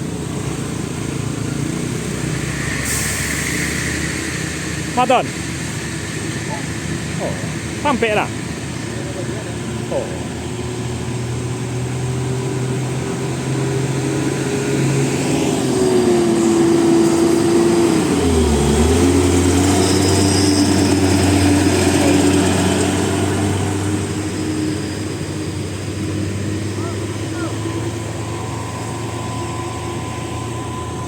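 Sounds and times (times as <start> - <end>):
heavy vehicle driving past: 0.0 - 31.0.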